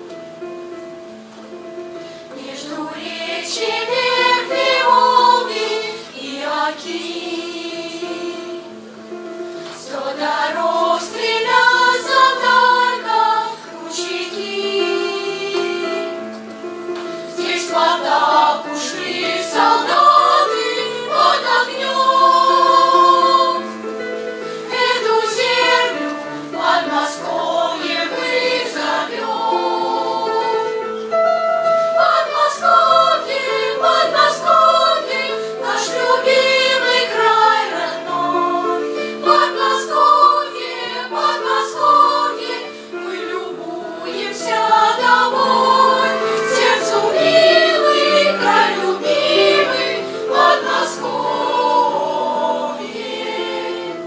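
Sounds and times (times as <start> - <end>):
children's choir singing: 1.2 - 54.0.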